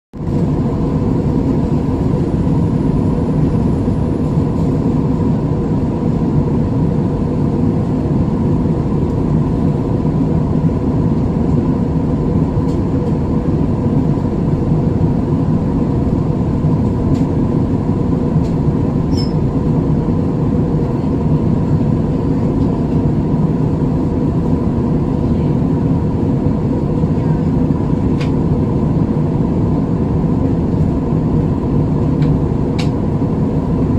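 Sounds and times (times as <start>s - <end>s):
airliner engine rumble: 0.2s - 33.9s
faint hum: 0.2s - 33.9s.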